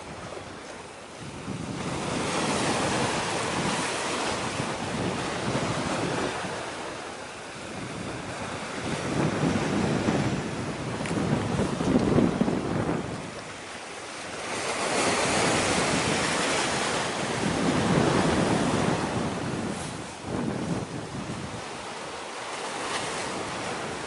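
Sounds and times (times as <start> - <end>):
sea waves: 0.0 - 24.0
wind gusting across microphone: 0.0 - 24.0.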